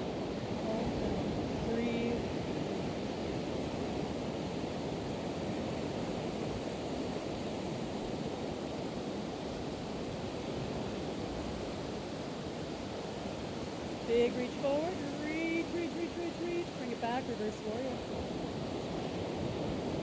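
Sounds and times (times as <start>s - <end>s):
ocean surf rushing: 0.0s - 20.0s.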